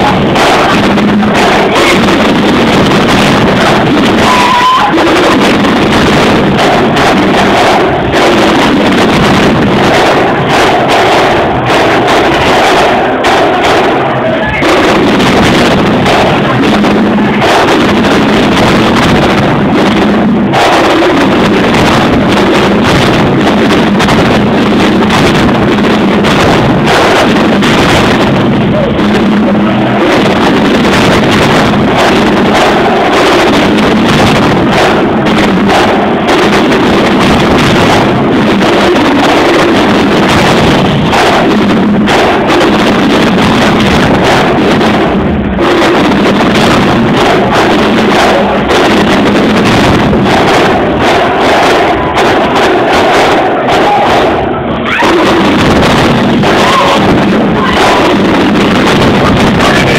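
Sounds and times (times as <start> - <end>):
drum hits: 0.0 - 59.9
marching band playing: 0.0 - 59.9.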